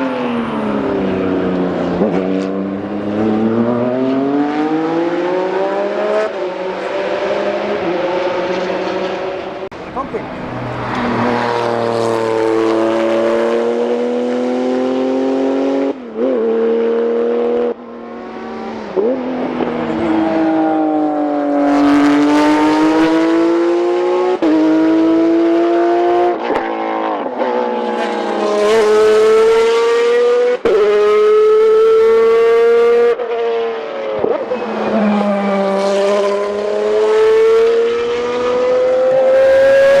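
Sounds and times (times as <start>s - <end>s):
race car engines at high revs: 0.0s - 40.0s.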